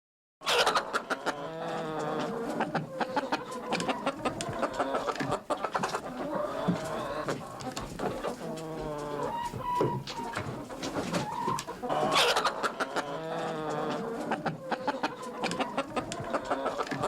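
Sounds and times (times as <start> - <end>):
chickens clucking: 0.4 - 17.0.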